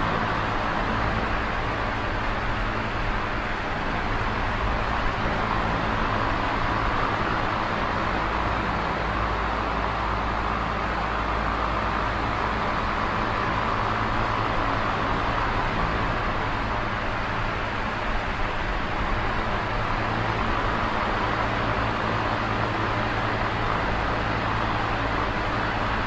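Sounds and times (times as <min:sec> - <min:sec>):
electric fan running: 0:00.0 - 0:26.0.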